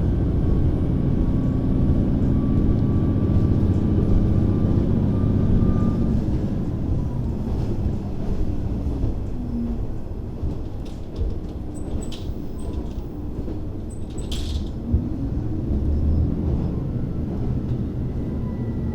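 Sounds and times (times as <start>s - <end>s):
train running: 0.0s - 18.6s.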